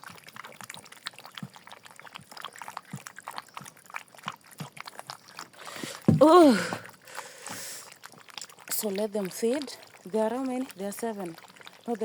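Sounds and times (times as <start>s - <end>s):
puppies lapping and slurping: 0.0s - 12.0s.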